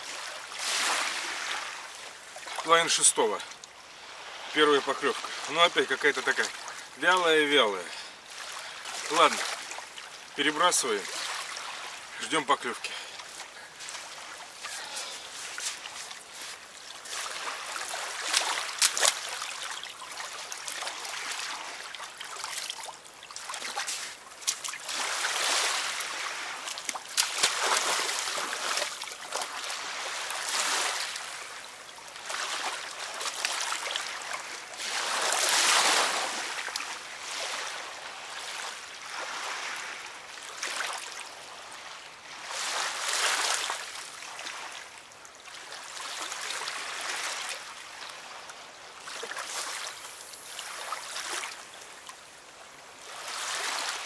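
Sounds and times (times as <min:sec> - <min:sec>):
river water lapping at bank: 0:00.0 - 0:54.0.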